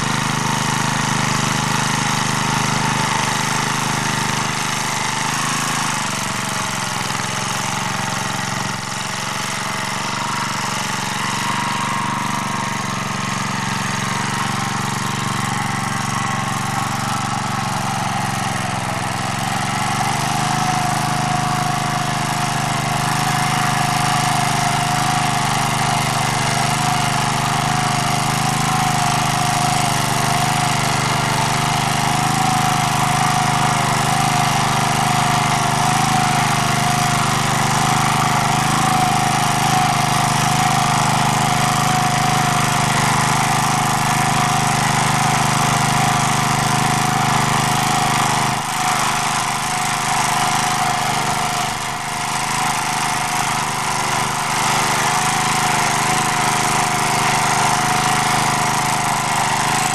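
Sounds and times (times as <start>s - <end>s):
rotary tiller churning soil: 0.0s - 59.9s
tractor engine running: 0.0s - 59.9s.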